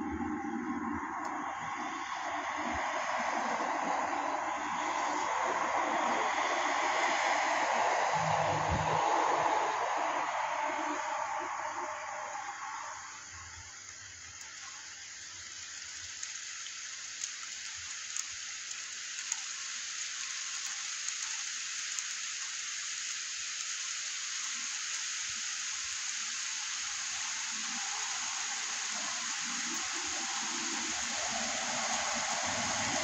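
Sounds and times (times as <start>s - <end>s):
rain hissing: 0.0s - 33.0s.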